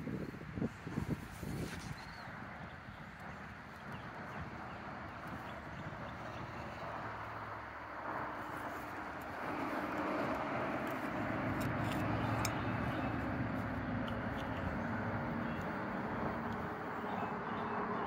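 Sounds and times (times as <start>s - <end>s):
vehicle motor running: 2.3s - 18.0s.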